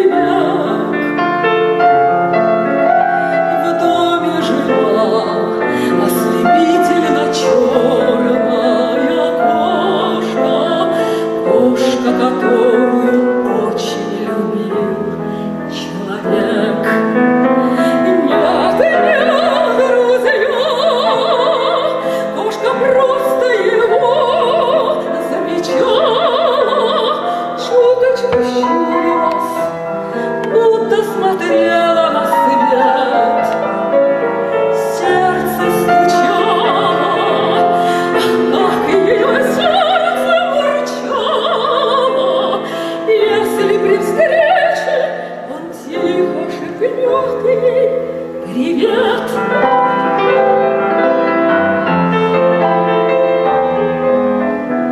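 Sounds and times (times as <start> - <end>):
woman singing operatically: 0.0 - 1.4, 2.6 - 51.1
grand piano: 0.0 - 54.9.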